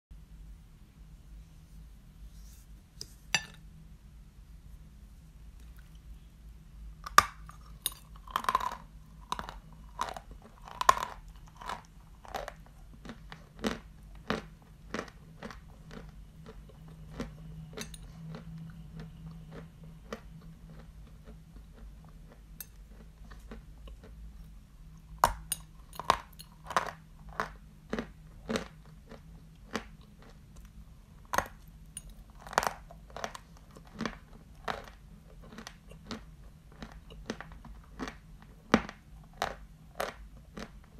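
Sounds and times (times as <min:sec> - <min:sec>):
chalk crunching and chewing: 0:07.1 - 0:40.9.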